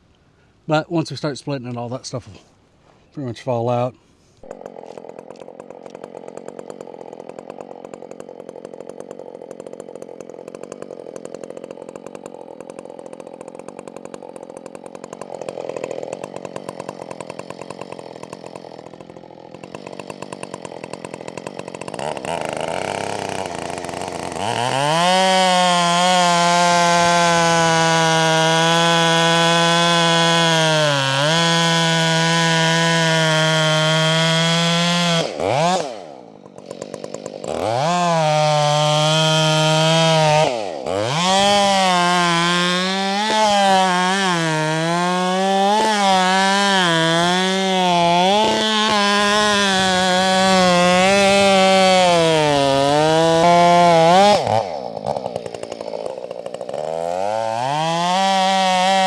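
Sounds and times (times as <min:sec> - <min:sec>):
chainsaw idling and revving: 0:01.0 - 0:59.0.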